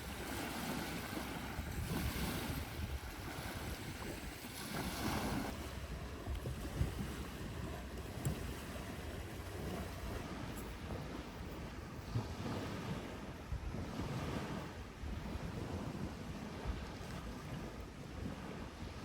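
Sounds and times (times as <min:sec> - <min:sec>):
sea waves washing ashore: 0:00.0 - 0:19.0
wind rumbling on microphone: 0:00.0 - 0:19.0.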